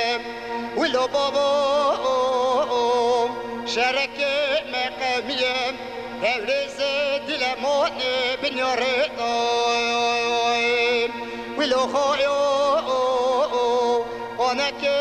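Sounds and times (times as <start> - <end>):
backing music: 0.0 - 15.0
man singing: 0.0 - 15.0.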